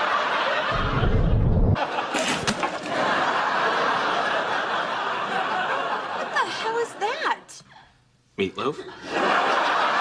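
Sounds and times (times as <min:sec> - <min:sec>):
studio audience laughing: 0:00.0 - 0:07.0, 0:08.8 - 0:10.0.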